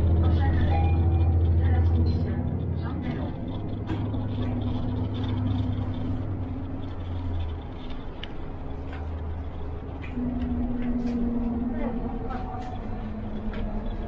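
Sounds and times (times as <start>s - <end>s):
bus engine droning: 0.0s - 14.0s
road noise: 0.0s - 14.0s.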